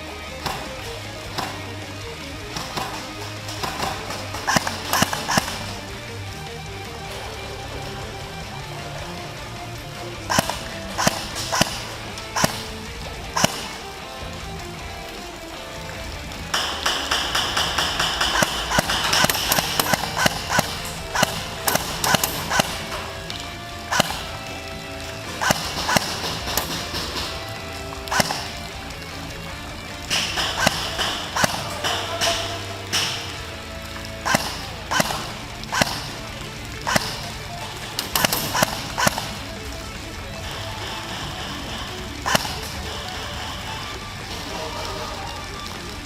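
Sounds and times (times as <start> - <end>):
airsoft gun firing: 0.4 - 6.6, 8.6 - 14.8, 16.5 - 39.6, 40.4 - 43.7.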